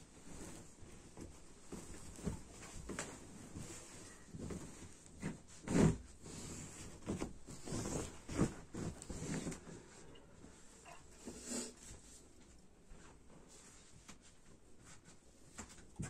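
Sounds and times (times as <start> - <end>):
quilt rustling and swishing: 0.0 - 16.0.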